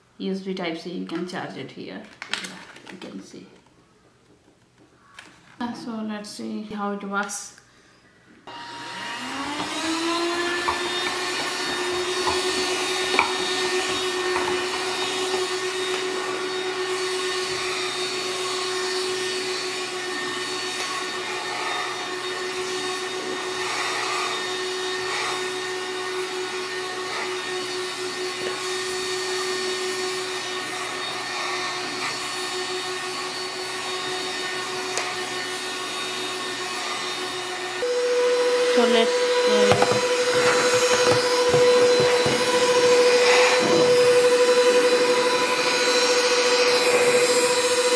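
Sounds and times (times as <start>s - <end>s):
handheld vacuum motor whining: 8.4s - 47.9s.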